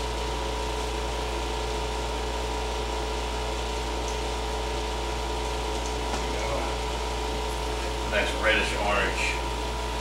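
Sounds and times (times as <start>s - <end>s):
air conditioner hum and fan: 0.0s - 10.0s.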